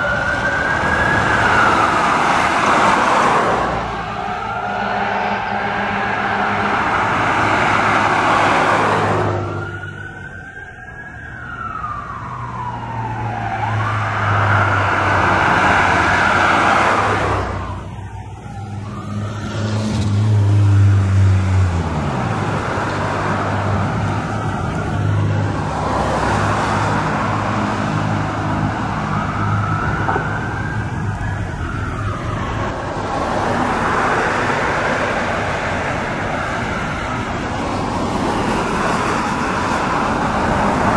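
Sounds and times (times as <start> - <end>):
low steady truck tones: 0.0 - 19.3, 20.0 - 40.9
fire truck siren wailing: 0.0 - 40.9.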